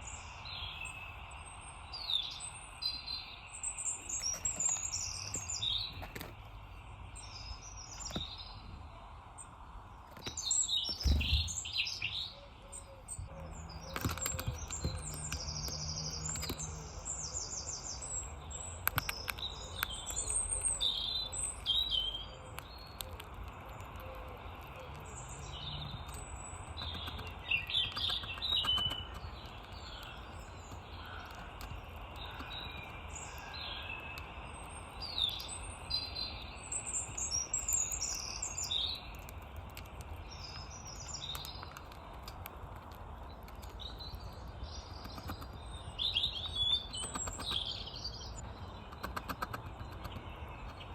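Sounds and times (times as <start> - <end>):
small birds chirping: 0.0 - 50.9
low background rumble: 3.6 - 50.9.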